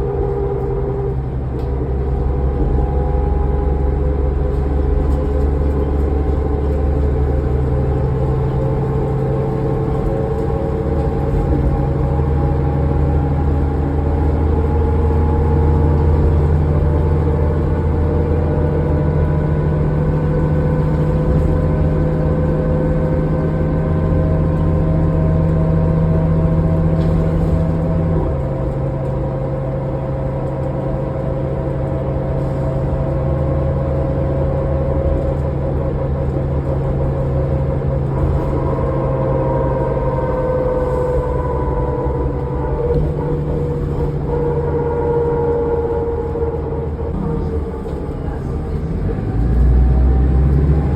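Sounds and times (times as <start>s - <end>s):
bus engine drone: 0.0s - 50.9s
howling whine gliding in pitch: 0.0s - 50.9s.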